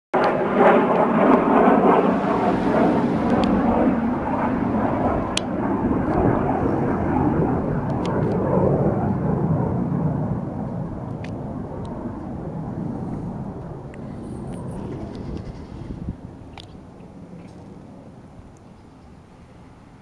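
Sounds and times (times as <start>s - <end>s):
jet passing overhead: 0.2s - 18.6s.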